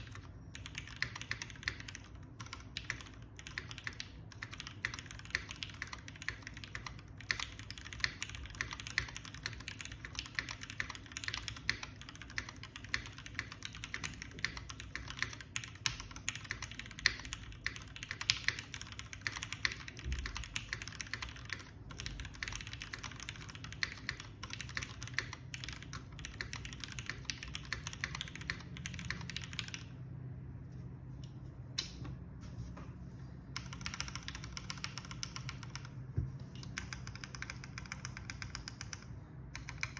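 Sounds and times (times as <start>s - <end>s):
typing on mechanical keyboard: 0.0s - 30.0s, 33.5s - 39.9s.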